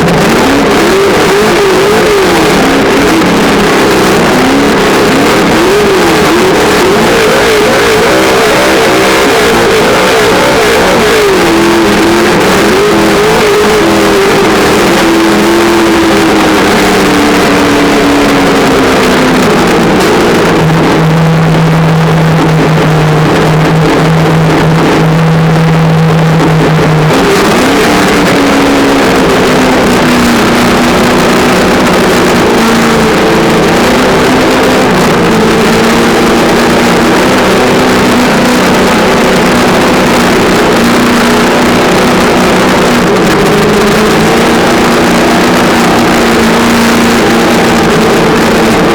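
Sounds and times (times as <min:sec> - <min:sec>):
simulated engine sound from speaker: 0:00.0 - 0:48.9.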